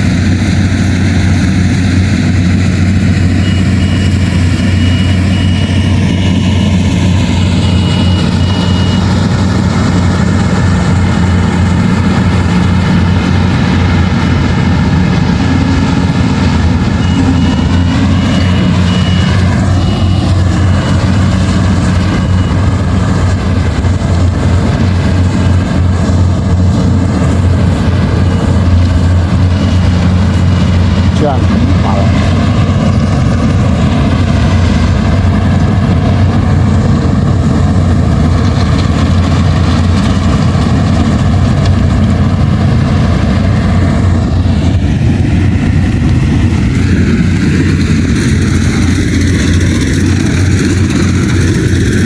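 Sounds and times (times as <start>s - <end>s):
combine harvester engine humming: 0.0s - 52.0s.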